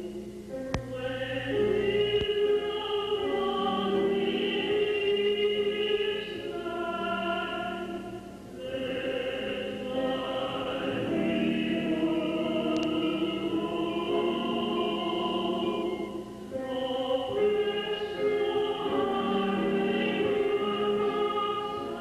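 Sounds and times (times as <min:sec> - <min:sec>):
choir singing: 0:00.9 - 0:22.0.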